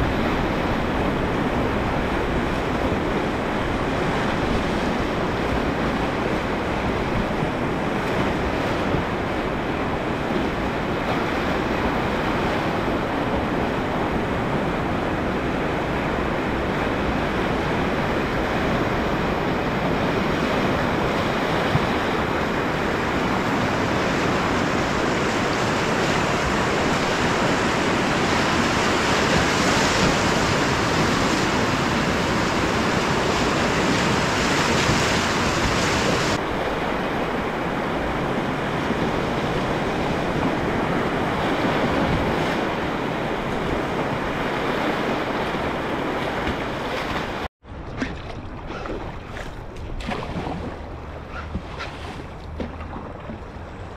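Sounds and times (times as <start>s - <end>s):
whitewater rapids rushing: 0.0s - 47.5s.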